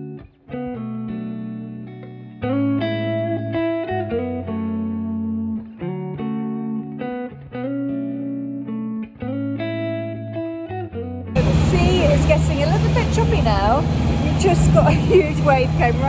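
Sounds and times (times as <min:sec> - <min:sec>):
guitar plucking chords: 0:00.0 - 0:16.0.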